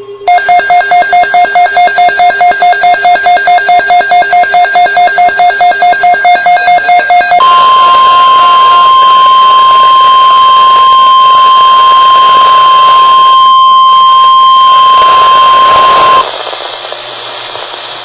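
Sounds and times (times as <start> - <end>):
loud steady warning alarm tone: 0.3 - 16.2
radio static hiss: 1.4 - 18.0.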